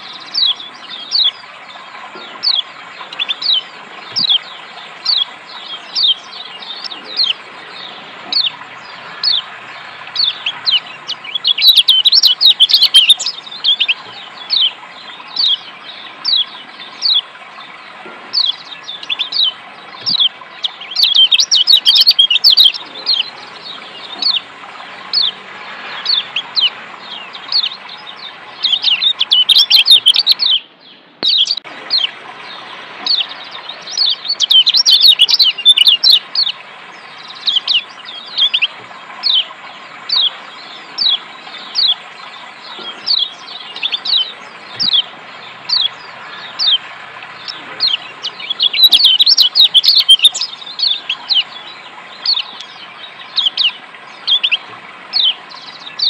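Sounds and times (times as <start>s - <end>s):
birds chirping sharply: 0.0s - 56.0s
running water: 0.0s - 56.0s.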